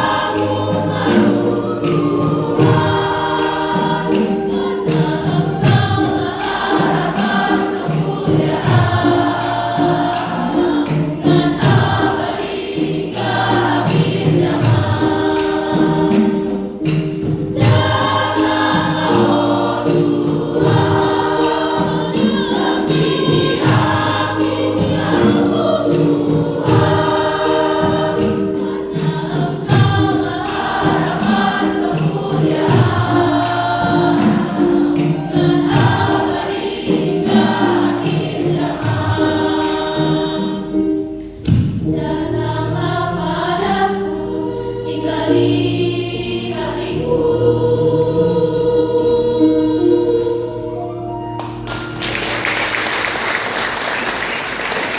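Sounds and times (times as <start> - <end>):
choir singing: 0.0 - 54.9.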